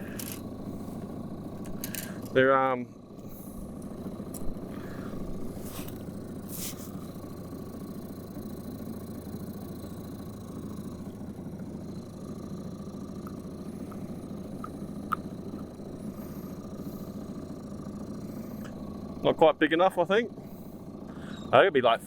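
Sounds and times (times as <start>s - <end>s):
small boat motor idling: 0.0s - 22.0s.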